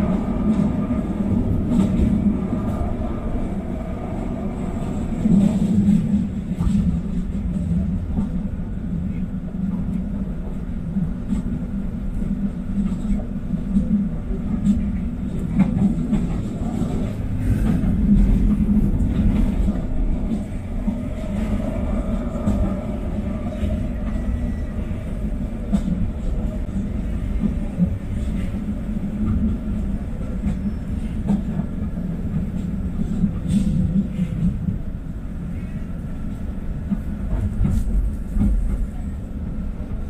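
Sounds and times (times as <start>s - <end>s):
train clicks: 0.0s - 3.2s, 9.1s - 35.0s, 36.3s - 40.0s
light-rail train rumbling: 0.0s - 40.0s.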